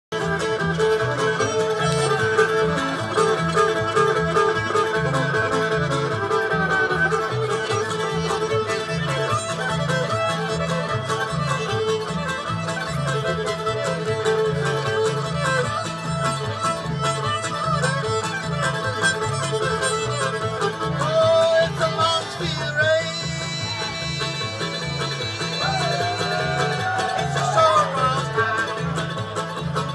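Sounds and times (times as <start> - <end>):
fiddle melody: 0.1 - 29.9
strummed strings: 0.1 - 29.9
upright bass: 0.1 - 29.9.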